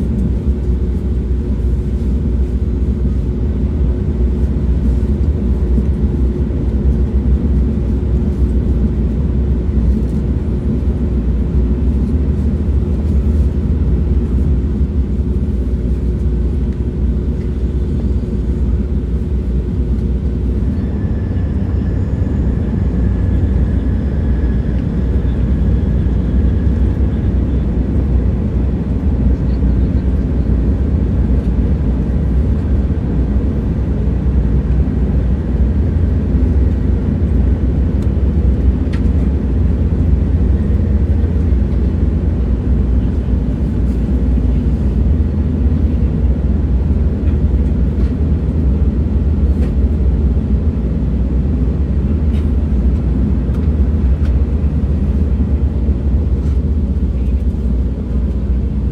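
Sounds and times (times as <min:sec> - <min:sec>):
train rumble: 0:00.0 - 0:58.9.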